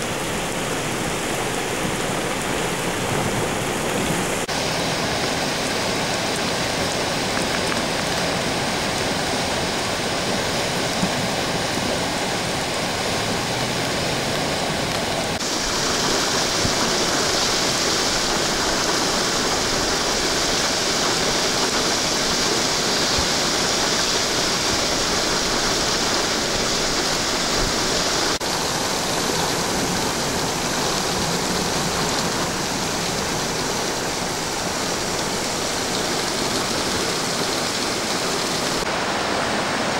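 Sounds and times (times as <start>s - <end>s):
rushing rainwater: 0.0s - 39.9s.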